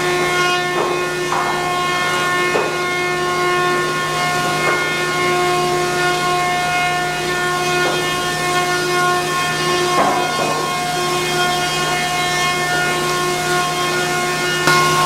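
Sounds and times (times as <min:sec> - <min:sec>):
planer cutterheads high whine: 0:00.0 - 0:15.0.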